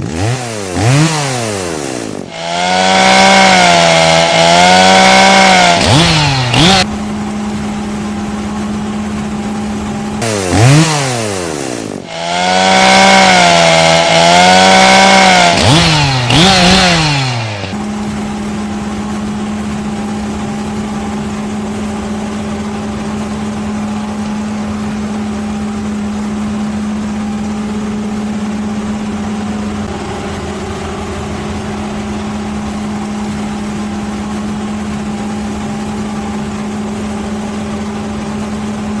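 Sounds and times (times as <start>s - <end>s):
engine droning hum: 0.0s - 39.0s.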